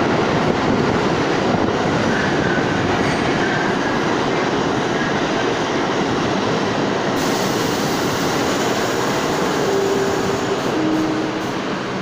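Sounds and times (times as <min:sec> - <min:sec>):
subway train noise: 0:00.0 - 0:12.0.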